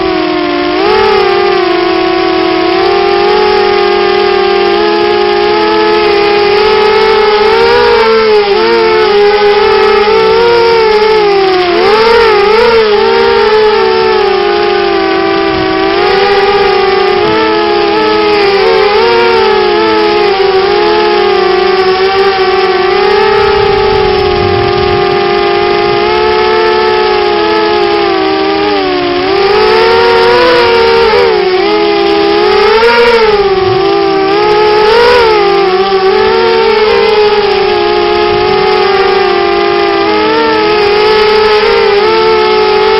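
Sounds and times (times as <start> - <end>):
drone propellers whining: 0.0 - 42.9.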